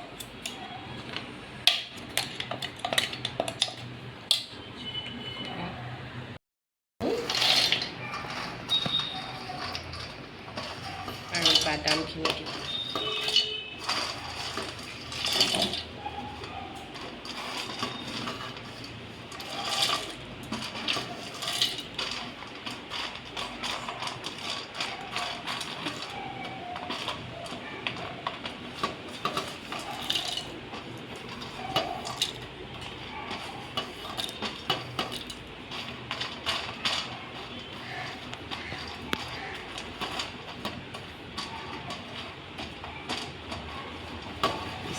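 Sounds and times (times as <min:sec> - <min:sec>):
dishes clattering: 0:07.0 - 0:44.9.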